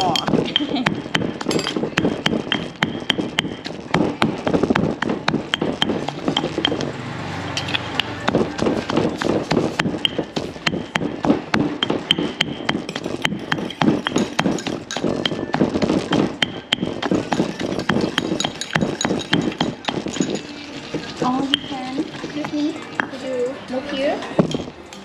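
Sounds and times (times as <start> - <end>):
stone pestle pounding in mortar: 0.0 - 7.0, 7.7 - 23.1, 24.4 - 24.8.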